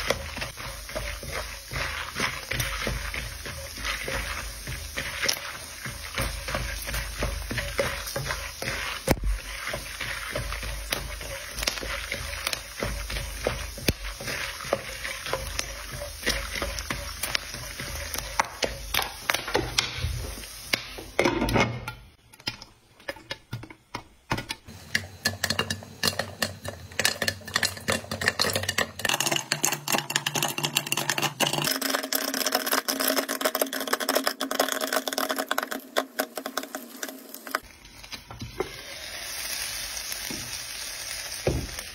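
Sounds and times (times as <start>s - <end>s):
popcorn popping: 0.0s - 38.7s
kernels sizzling in hot oil: 0.0s - 41.9s.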